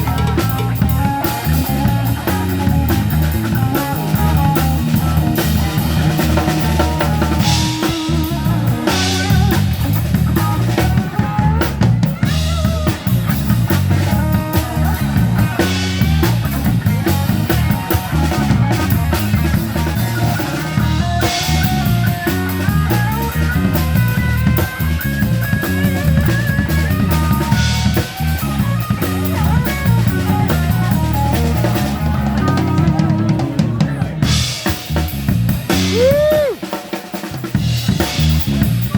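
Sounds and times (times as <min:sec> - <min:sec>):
guitar melody: 0:00.0 - 0:36.4
bass line: 0:00.0 - 0:36.6, 0:37.4 - 0:38.9
drum kit with cymbal crashes: 0:00.0 - 0:38.9.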